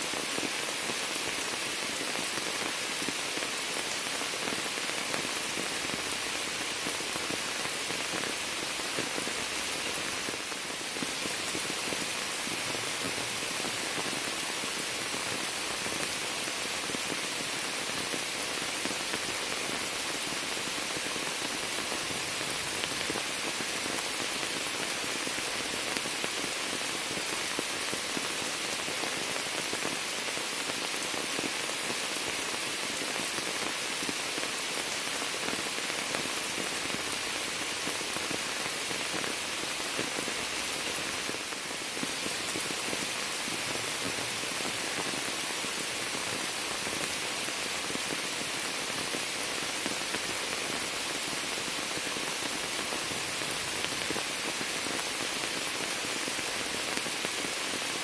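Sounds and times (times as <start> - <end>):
rain falling into water: 0.0 - 58.0.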